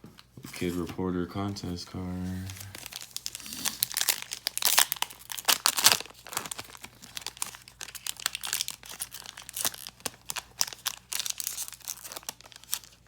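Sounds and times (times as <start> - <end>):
wrapper crinkling and tearing: 2.2 - 13.0.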